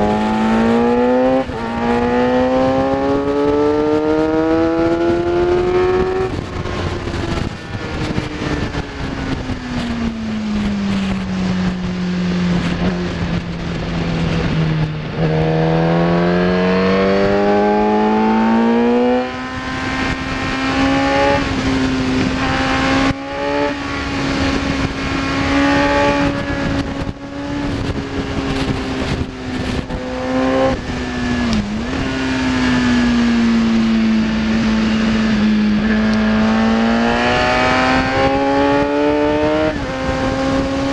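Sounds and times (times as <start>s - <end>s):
motorcycle engine: 0.0s - 40.9s
wind rush: 0.0s - 40.9s.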